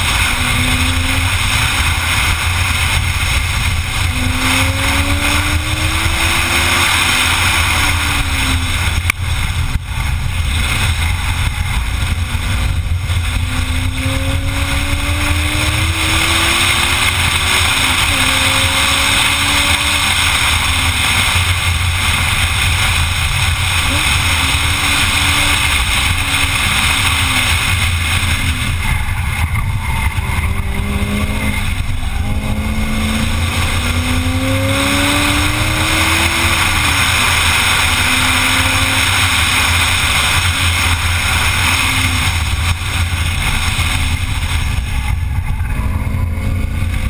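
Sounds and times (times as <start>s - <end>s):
heavy wind noise: 0.0s - 47.0s
road noise: 0.0s - 47.0s
sports car engine revving: 0.0s - 47.0s.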